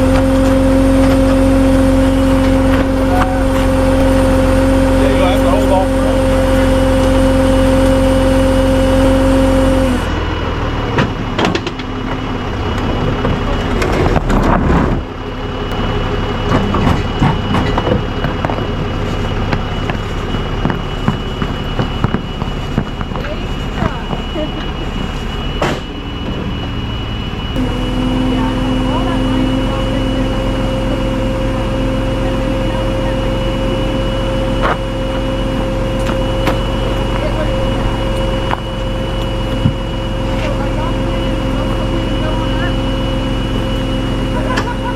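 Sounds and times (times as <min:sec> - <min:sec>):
truck engine whining: 0:00.0 - 0:44.9.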